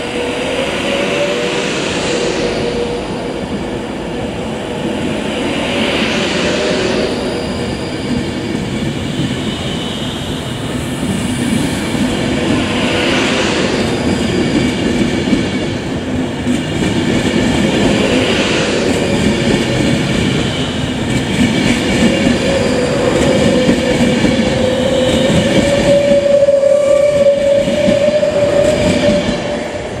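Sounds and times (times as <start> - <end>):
electric train accelerating past: 0.0 - 30.0
rising train whine: 0.0 - 30.0
train wheels rolling on rails: 0.0 - 30.0.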